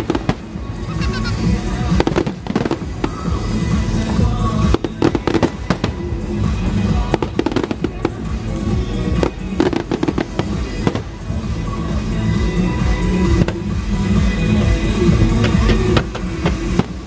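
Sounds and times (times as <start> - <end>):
fireworks popping and crackling: 0.0 - 17.0
music playing: 0.0 - 17.0.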